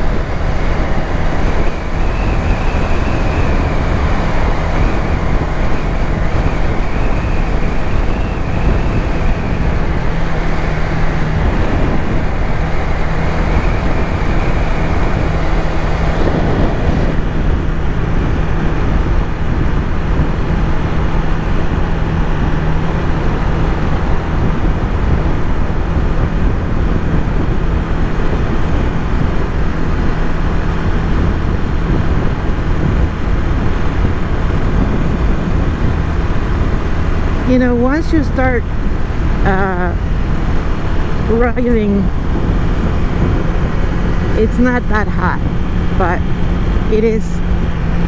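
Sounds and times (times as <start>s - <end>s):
motorcycle engine running: 0.0s - 48.0s
road and wind noise: 0.0s - 48.0s.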